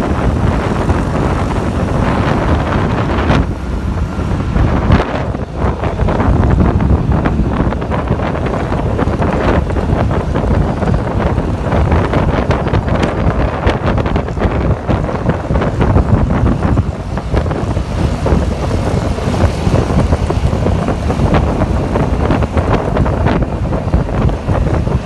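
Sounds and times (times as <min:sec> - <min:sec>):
vehicle noise: 0:00.0 - 0:25.0
wind buffeting microphone: 0:00.0 - 0:25.0.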